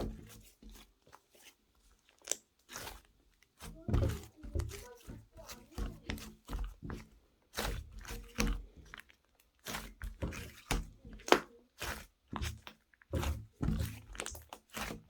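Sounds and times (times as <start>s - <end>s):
crunching and rustling handling: 0.0s - 15.0s.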